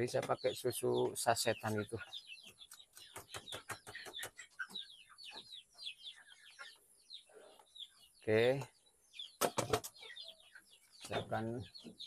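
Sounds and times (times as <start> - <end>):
chicks cheeping: 0.0 - 12.0.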